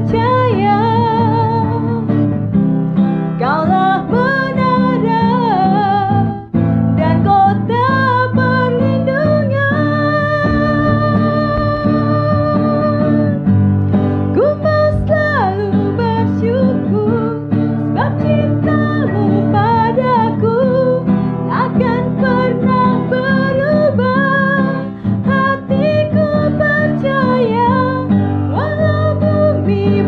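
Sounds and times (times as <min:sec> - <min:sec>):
woman singing worship song: 0:00.0 - 0:02.0, 0:03.4 - 0:06.4, 0:07.0 - 0:13.4, 0:14.3 - 0:30.0
acoustic guitar: 0:00.0 - 0:30.0.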